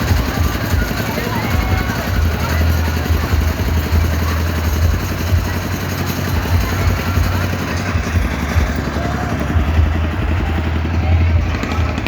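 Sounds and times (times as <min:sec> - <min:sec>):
large engine rumbling: 0:00.0 - 0:12.0.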